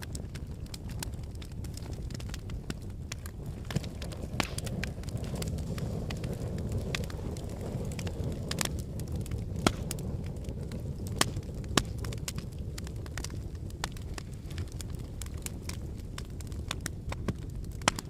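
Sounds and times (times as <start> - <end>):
fire rumbling and crackling: 0.0 - 18.0.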